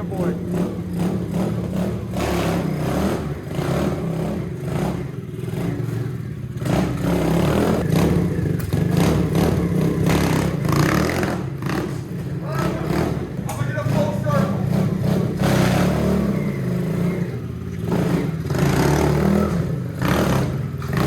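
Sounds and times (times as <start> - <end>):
small motorcycle engine revving: 0.0 - 21.0.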